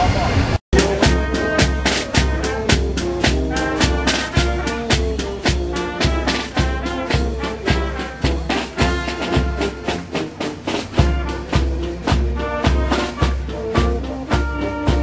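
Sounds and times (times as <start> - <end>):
bass drum beat: 0.7 - 15.0
saxophones: 0.8 - 15.0
snare drums: 0.8 - 15.0
trumpets: 0.8 - 15.0
tuba: 0.8 - 15.0.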